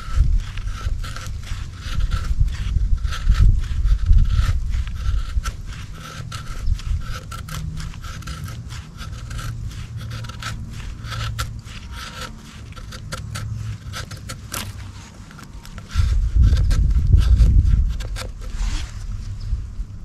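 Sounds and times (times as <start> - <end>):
knife rasping on wood: 0.0 - 19.4.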